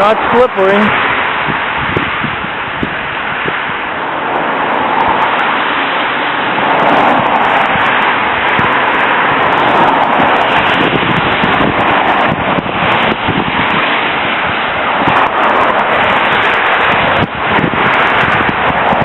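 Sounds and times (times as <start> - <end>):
tyres hissing on wet road: 0.0 - 19.0.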